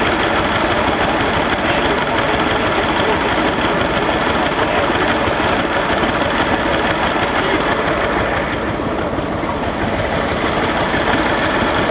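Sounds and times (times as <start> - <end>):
stationary engines clattering: 0.0 - 11.9.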